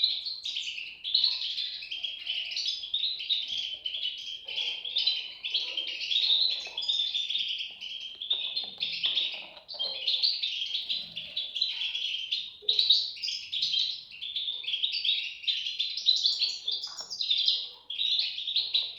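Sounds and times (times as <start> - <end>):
bird chicks chirping: 0.0 - 18.9.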